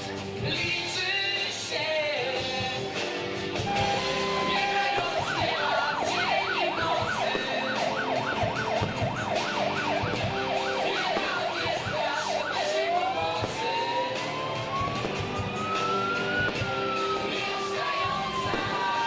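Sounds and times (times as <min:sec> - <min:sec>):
siren yelping: 0:03.6 - 0:19.0.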